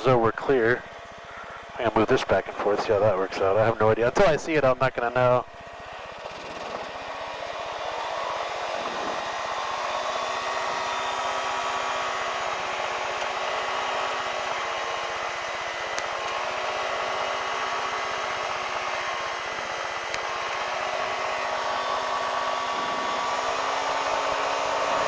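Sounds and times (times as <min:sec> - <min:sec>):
light aircraft engine drone: 0:00.0 - 0:25.0.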